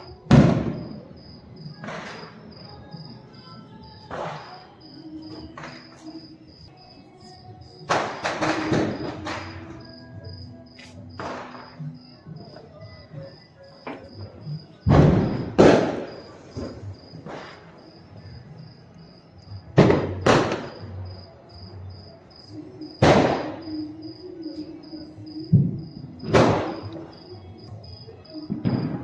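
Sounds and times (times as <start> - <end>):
firecrackers banging: 0.0 - 6.7, 7.8 - 18.6, 19.5 - 21.3, 22.8 - 27.8, 28.4 - 29.0
crickets chirping: 0.0 - 29.0.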